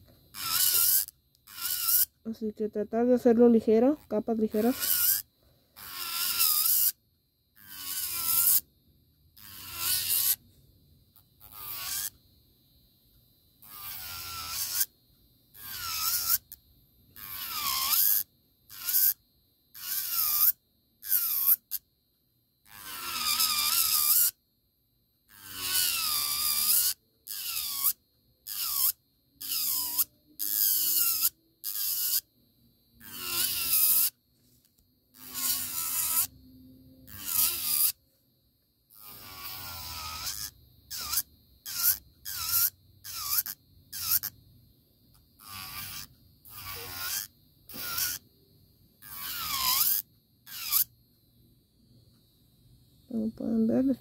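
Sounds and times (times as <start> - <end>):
electric nail file grinding: 0.0 - 8.7, 9.4 - 10.4, 11.1 - 12.2, 13.6 - 21.9, 22.6 - 24.4, 25.3 - 32.3, 33.0 - 38.0, 38.9 - 44.4, 45.1 - 48.3, 49.0 - 51.0.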